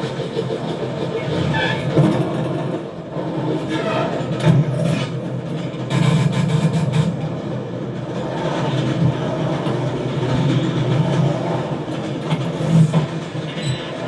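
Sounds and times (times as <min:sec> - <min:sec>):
doors rumbling along rails: 0:00.0 - 0:14.0.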